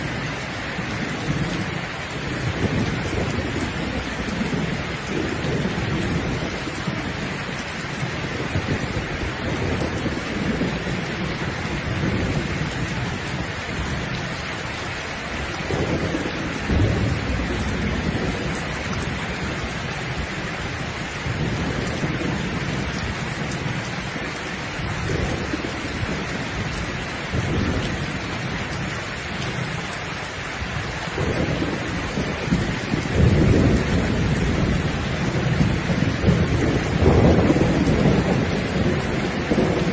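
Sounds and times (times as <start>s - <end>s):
low thunder rumbles: 0.0s - 39.9s
steady rain falling: 0.0s - 39.9s.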